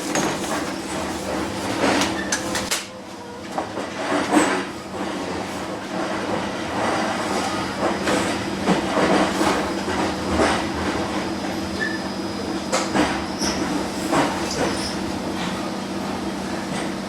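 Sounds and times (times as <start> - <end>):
train running noise with hum: 0.0 - 17.0.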